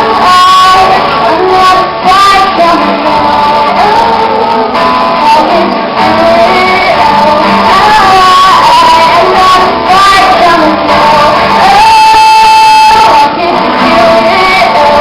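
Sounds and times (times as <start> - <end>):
guitar accompaniment: 0.0 - 15.0
person singing long gliding notes: 0.0 - 15.0.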